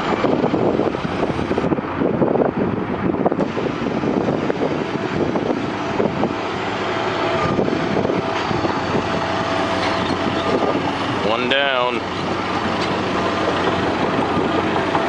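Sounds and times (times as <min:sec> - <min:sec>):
dense rumbling noise: 0:00.0 - 0:15.0
engine running: 0:00.0 - 0:15.0.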